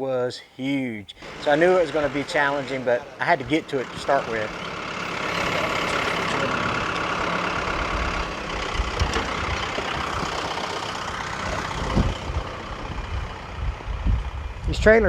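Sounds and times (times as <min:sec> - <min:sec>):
vehicle engine idling: 0:01.0 - 0:15.0.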